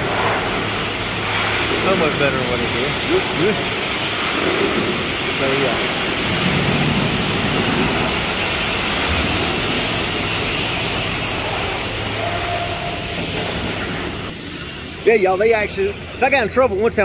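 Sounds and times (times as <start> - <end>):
water spraying: 0.0 - 16.7
wash equipment running: 0.0 - 17.0.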